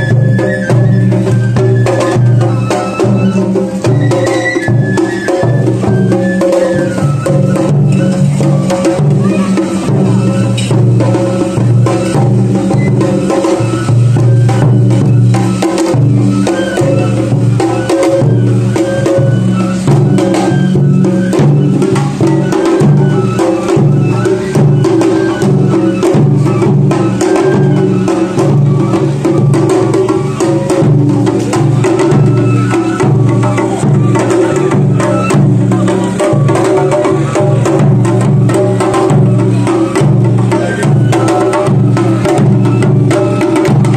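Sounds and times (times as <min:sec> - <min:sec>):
taiko drums fast rhythm: 0:00.0 - 0:43.9.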